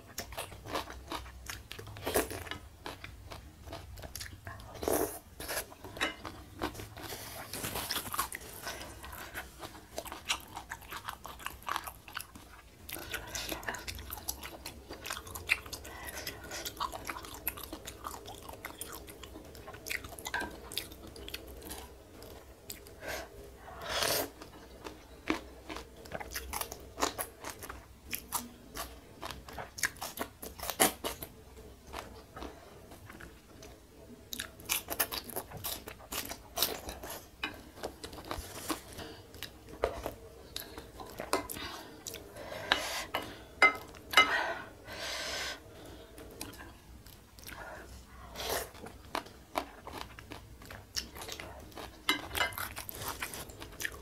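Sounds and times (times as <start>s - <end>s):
chewing and wet mouth sounds: 0.0s - 23.0s, 24.0s - 42.3s, 46.1s - 47.7s, 48.3s - 54.0s.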